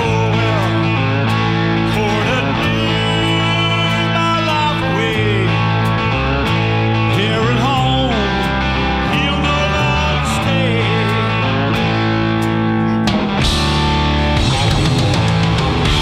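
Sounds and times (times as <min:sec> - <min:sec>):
electric guitar: 0:00.0 - 0:16.0
rock band playing live: 0:00.0 - 0:16.0.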